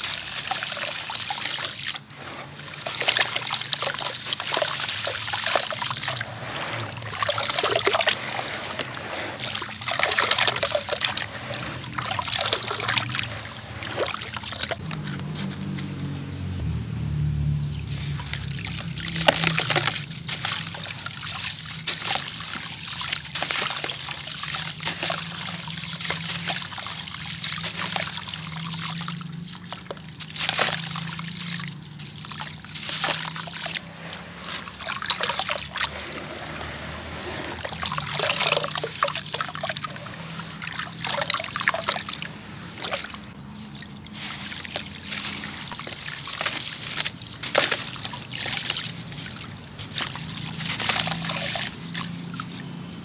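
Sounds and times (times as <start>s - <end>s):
sand-cement crumbling in water: 0.0s - 16.2s, 17.8s - 53.0s
water splashes: 0.0s - 53.0s
water trickling and sloshing: 0.0s - 53.0s.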